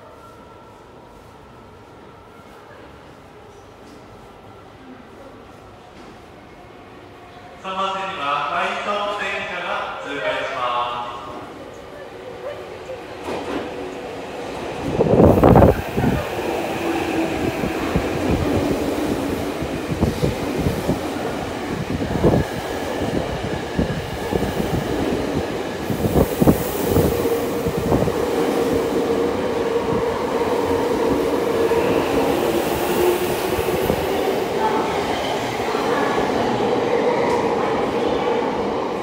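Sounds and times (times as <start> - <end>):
subway train passing: 0.0 - 39.0.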